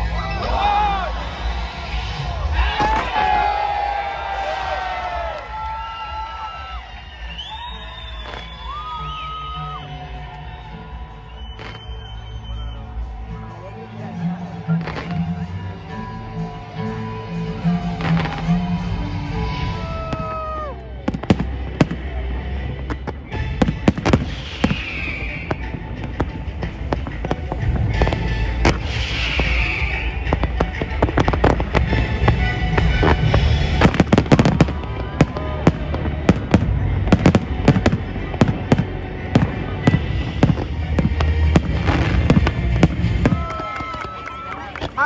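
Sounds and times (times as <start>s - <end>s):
fireworks cracks and bangs: 0.0s - 9.5s, 17.8s - 45.0s.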